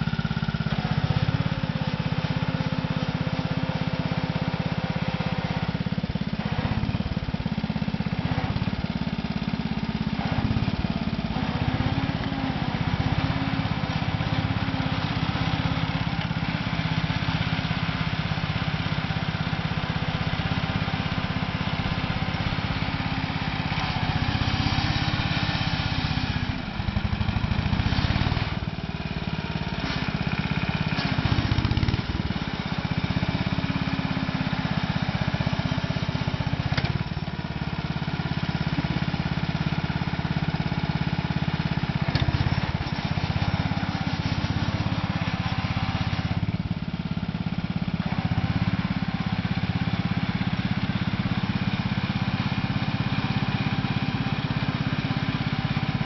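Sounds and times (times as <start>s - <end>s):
small dozer engine running: 0.0s - 56.0s.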